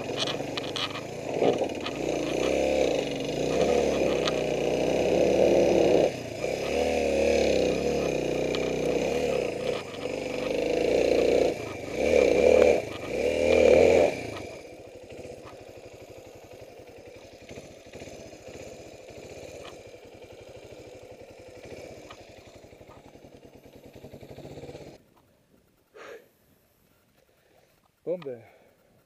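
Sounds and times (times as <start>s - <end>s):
motorcycle engine revving: 0.0s - 25.1s
motorcycle engine idling: 0.0s - 29.0s.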